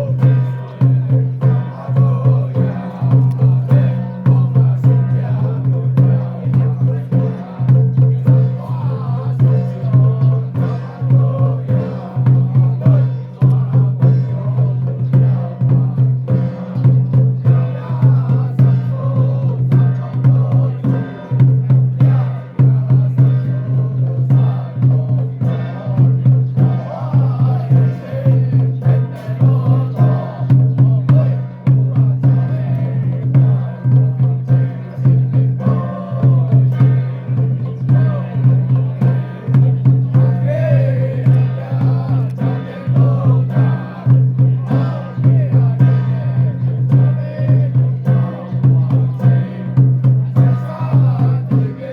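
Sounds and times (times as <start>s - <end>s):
drum and wood block percussion: 0.0s - 51.9s
group chanting in unison: 0.0s - 51.9s.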